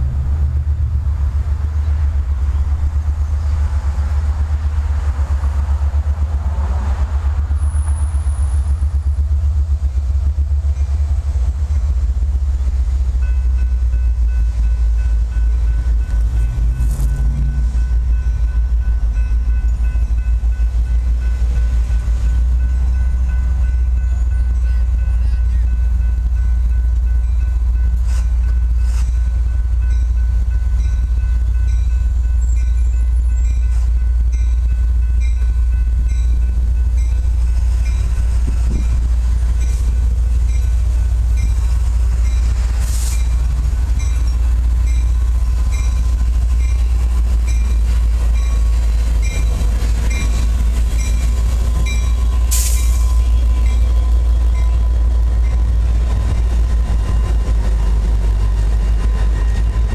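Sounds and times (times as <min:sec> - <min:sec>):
diesel locomotive rumble: 0:00.0 - 0:59.9.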